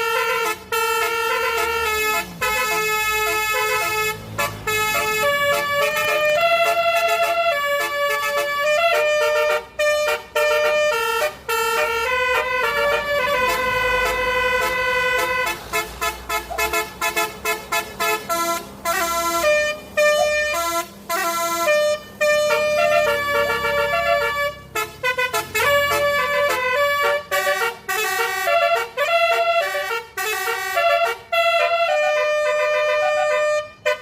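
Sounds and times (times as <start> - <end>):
bus multi-tone air horn tune: 0.0 - 34.0.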